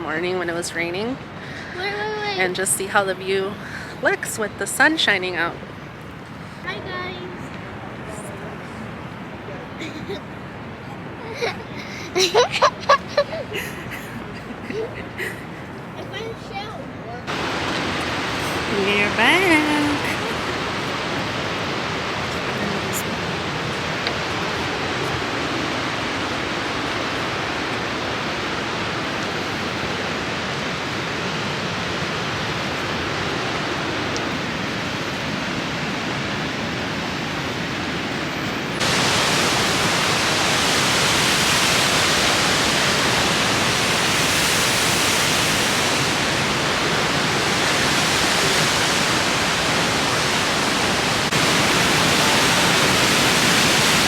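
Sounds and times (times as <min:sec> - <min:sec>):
rush of falling water: 0:00.0 - 0:54.0.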